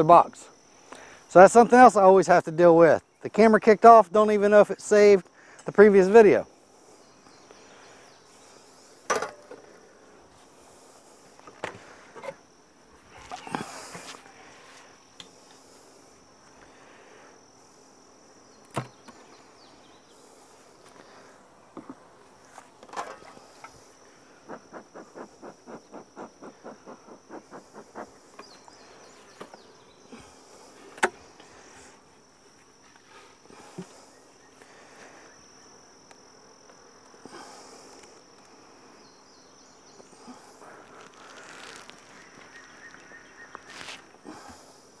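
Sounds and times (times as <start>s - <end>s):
high insect trill: 0.0s - 45.0s
honey bees humming: 0.0s - 45.0s
bee smoker puffing: 4.4s - 45.0s.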